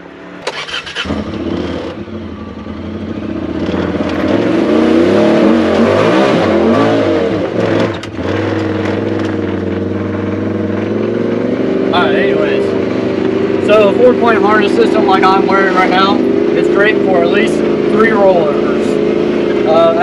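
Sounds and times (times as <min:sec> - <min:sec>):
engine revving: 0:00.3 - 0:20.0.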